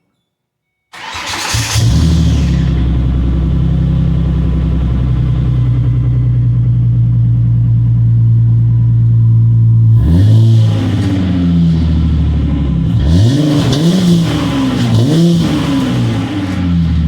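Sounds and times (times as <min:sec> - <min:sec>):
car engine idling: 0:01.0 - 0:17.0.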